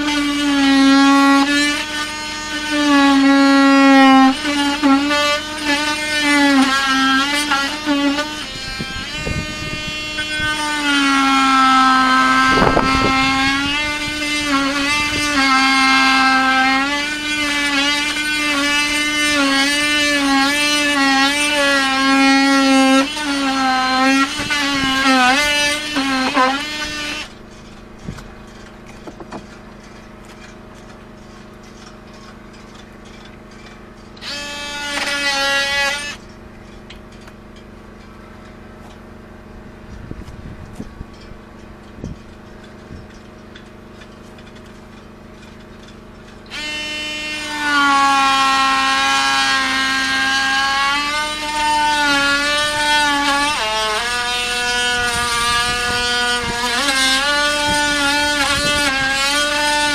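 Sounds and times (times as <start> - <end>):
power tool buzzing on wood: 0.0 - 59.9.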